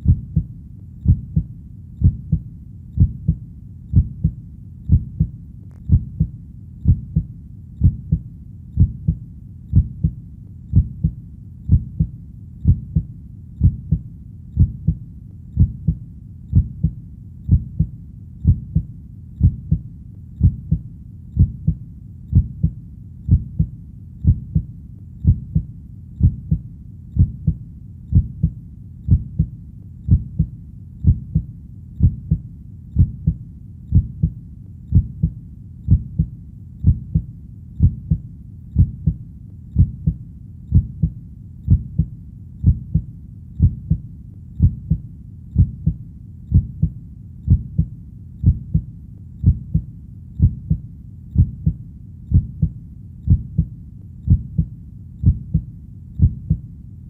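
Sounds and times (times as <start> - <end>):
heartbeat thumps: 0.0 - 32.4, 33.0 - 56.7.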